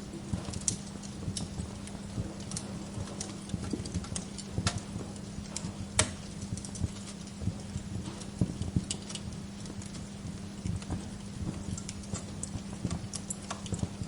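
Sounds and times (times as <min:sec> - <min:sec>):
burning logs popping: 0:00.0 - 0:14.0
steady low hum: 0:00.0 - 0:14.0
wood fire crackling: 0:00.0 - 0:14.0.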